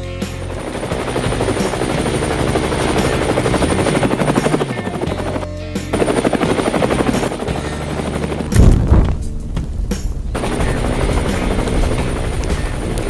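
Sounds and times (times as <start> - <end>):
background music: 0.0 - 13.0
helicopter rotor chopping: 0.0 - 13.0.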